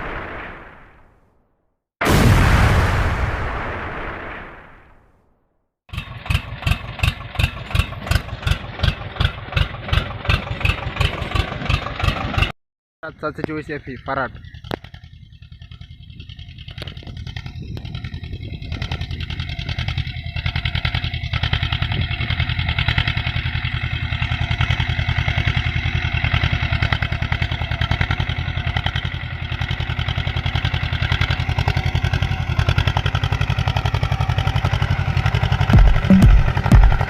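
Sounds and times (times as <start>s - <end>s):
tractor diesel engine running: 5.9s - 12.5s, 13.7s - 37.0s.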